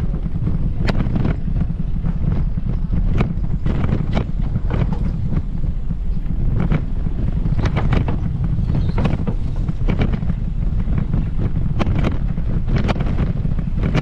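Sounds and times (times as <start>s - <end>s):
footsteps on paved path: 0.0s - 14.0s
wind buffeting microphone: 0.0s - 14.0s.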